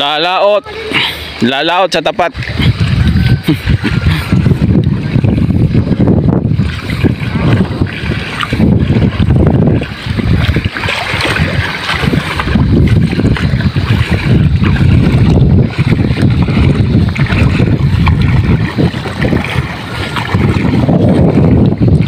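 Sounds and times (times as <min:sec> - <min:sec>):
water sloshing around wading feet: 0:00.0 - 0:22.0
wind buffeting microphone: 0:00.0 - 0:22.0.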